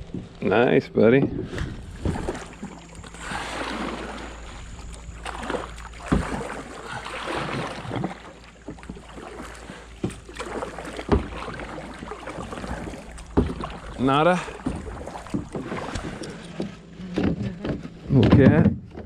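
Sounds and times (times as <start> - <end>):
wind and water rushing: 0.0 - 17.0
hollow knocks in small boat: 0.0 - 19.0.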